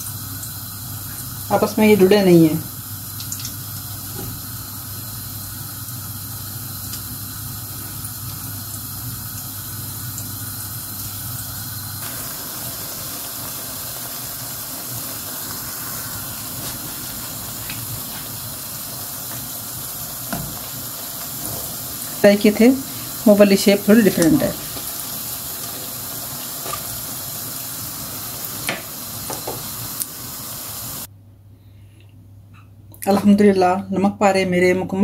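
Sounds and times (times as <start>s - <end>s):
hot oil sizzling: 0.0s - 31.1s.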